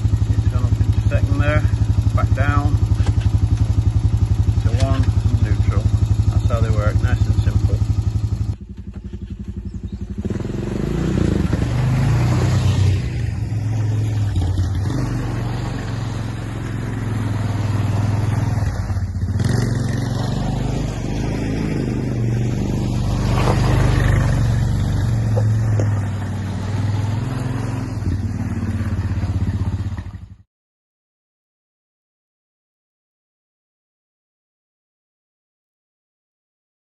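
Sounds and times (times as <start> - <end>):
quad bike engine running: 0.0 - 30.4.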